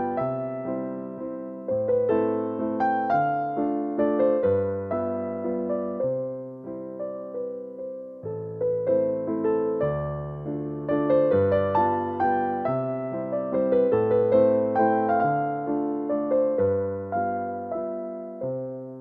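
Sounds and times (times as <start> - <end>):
gentle electric piano music: 0.0 - 19.0.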